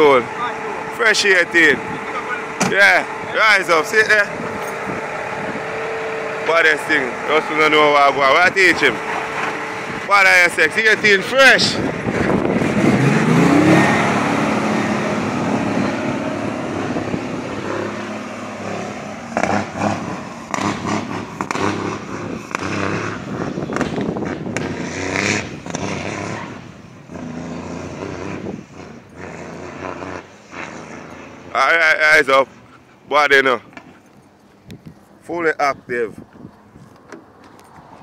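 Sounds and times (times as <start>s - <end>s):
road noise: 0.0s - 38.0s
truck engine accelerating: 0.0s - 38.0s.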